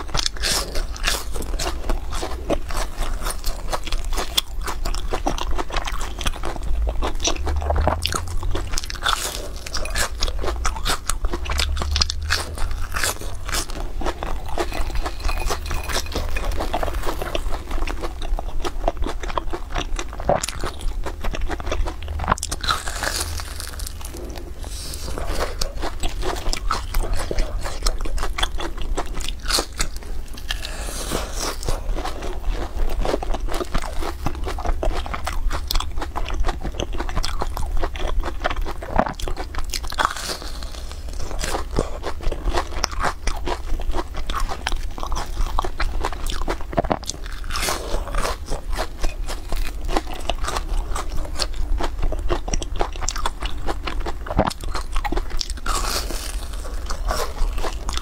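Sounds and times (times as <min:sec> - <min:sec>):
crunching and chewing fried food: 0:00.0 - 0:58.0
steady low hum: 0:00.0 - 0:58.0.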